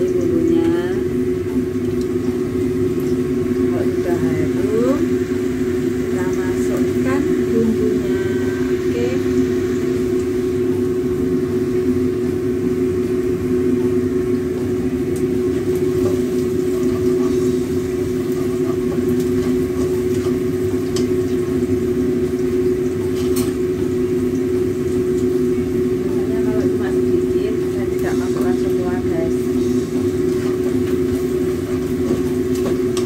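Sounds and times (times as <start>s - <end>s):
exhaust fan humming: 0.0s - 33.0s.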